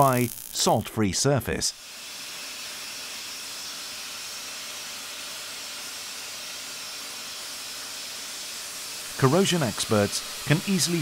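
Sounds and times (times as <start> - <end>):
grit-blasting nozzle hissing: 0.0 - 0.9, 1.7 - 11.0.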